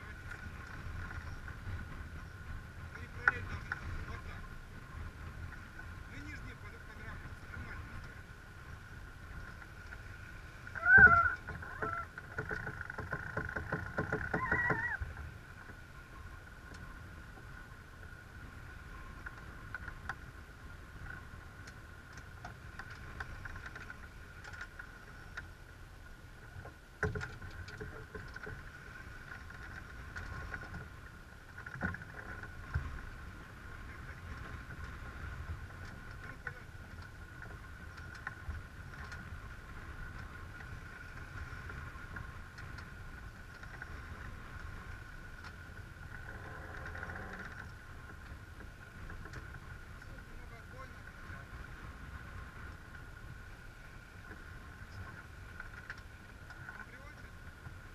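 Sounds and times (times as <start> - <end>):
water and wind rushing over hull: 0.0 - 57.9.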